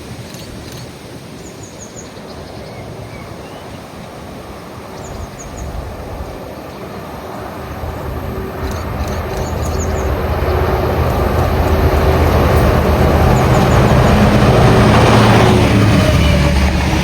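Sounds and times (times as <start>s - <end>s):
low rumble of train: 0.0s - 17.0s
wind buffeting microphone: 2.3s - 17.0s.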